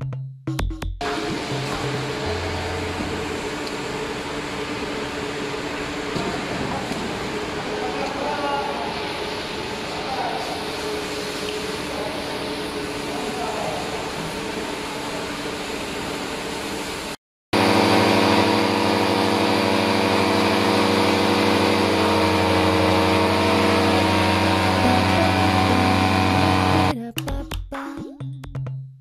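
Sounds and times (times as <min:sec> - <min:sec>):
large fan droning: 0:01.0 - 0:26.9
machinery rushing noise: 0:01.0 - 0:26.9.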